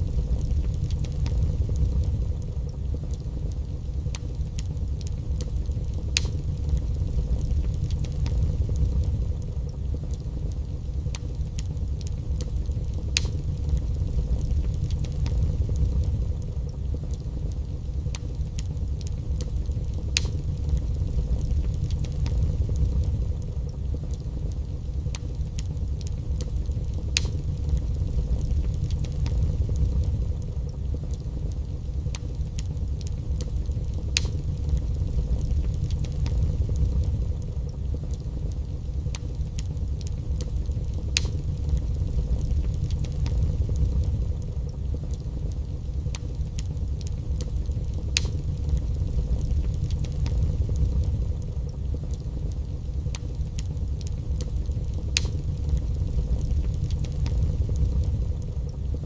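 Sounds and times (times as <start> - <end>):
fire rumbling: 0.0 - 59.0
logs crackling and popping: 0.0 - 59.0.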